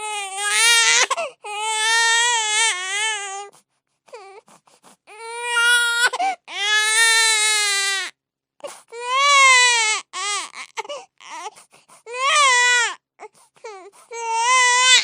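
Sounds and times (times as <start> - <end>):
infant crying: 0.0 - 15.0.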